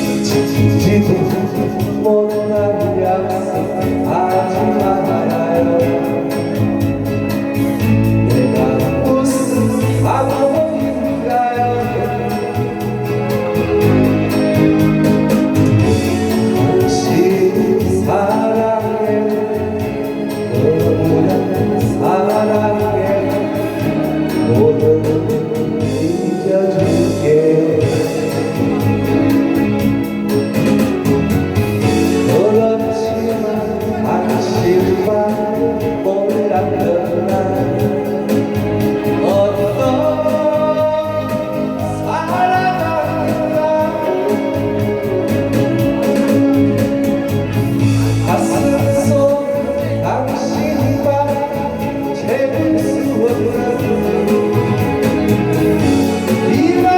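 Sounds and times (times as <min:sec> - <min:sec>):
instrumental backing track: 0:00.0 - 0:56.9.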